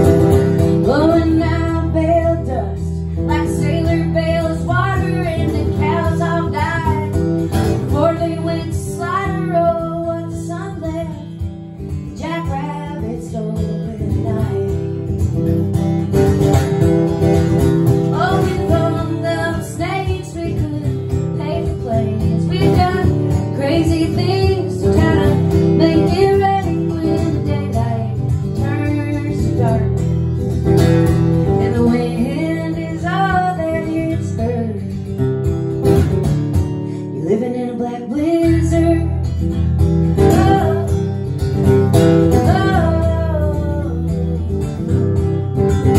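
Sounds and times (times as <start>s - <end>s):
woman singing: 0.0s - 15.4s, 17.8s - 35.6s, 36.8s - 45.9s
acoustic guitar: 0.0s - 45.9s.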